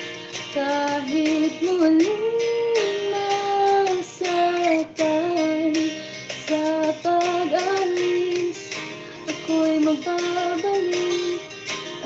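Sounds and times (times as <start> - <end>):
woman singing a slow ballad: 0.5 - 11.5.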